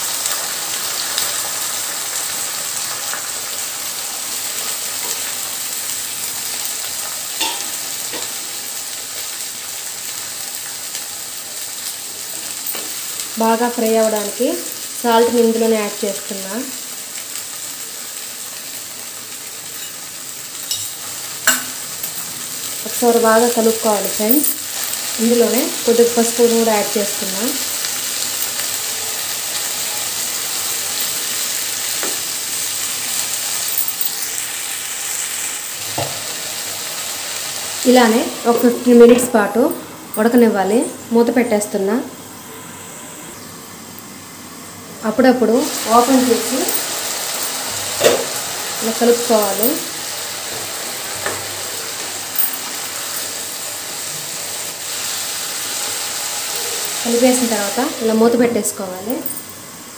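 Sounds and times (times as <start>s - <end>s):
green beans sizzling in oil: 0.0s - 59.9s.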